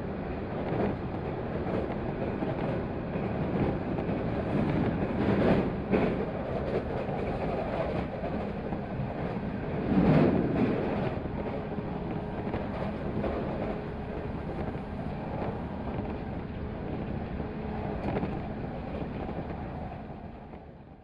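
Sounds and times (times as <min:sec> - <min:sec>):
train wheels and motors rumbling: 0:00.0 - 0:21.0.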